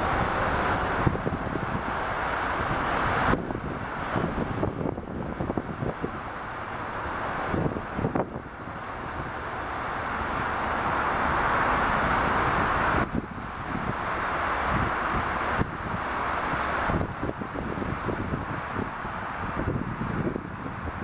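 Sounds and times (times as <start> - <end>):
jet engines rushing: 0.0 - 21.0
wind buffeting microphone: 0.0 - 21.0.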